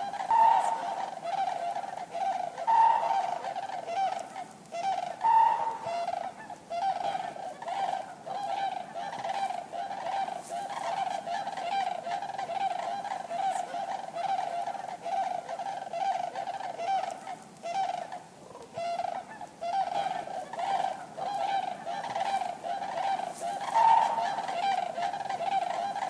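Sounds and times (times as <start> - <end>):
cranes calling: 0.0 - 26.0.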